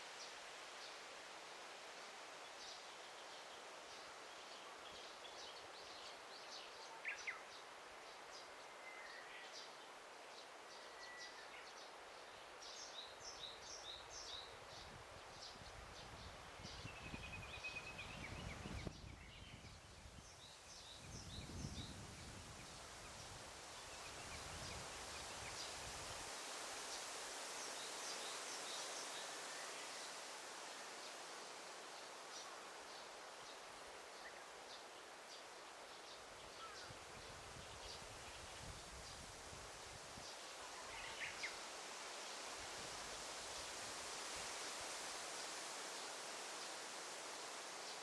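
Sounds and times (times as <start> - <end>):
soft steady hiss: 0.0 - 48.0.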